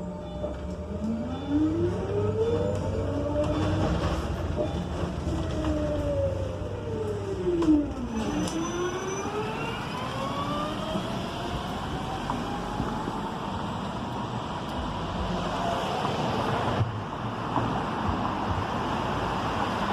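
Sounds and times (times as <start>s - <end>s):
low road rumble: 0.0s - 19.9s.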